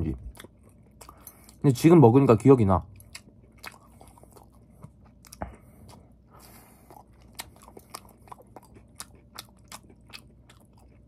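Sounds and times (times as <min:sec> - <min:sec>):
chewing with wet mouth smacks: 0:00.1 - 0:01.6, 0:02.8 - 0:11.0.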